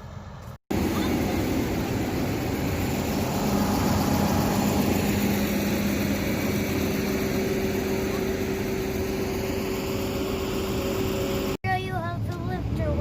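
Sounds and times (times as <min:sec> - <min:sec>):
harvesting machinery engine droning: 0:00.0 - 0:11.6.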